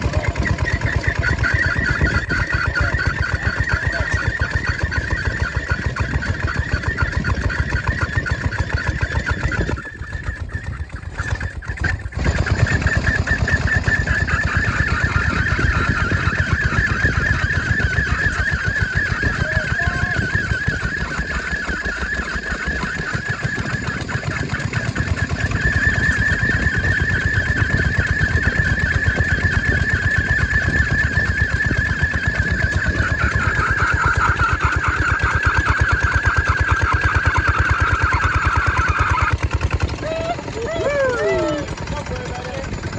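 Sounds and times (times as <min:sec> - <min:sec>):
diesel engine running hard: 0:00.0 - 0:42.9.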